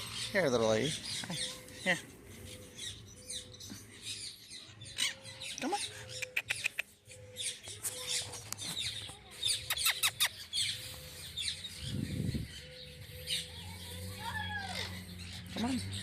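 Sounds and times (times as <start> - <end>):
parrots and birds squawking: 0.0 - 7.6, 9.4 - 16.0.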